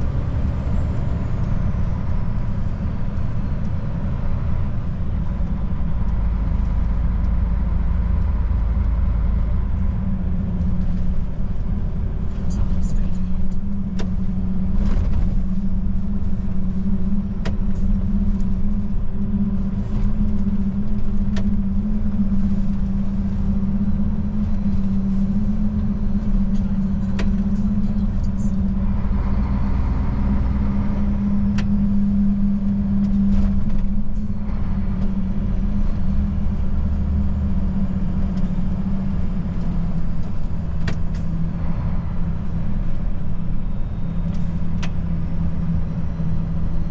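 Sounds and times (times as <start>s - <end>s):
diesel truck engine droning: 0.0s - 46.9s.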